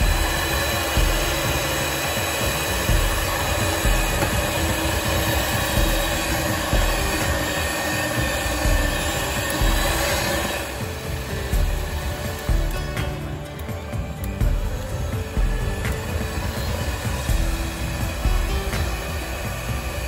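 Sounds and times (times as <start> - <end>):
hand mixer motor whirring: 0.0 - 20.0.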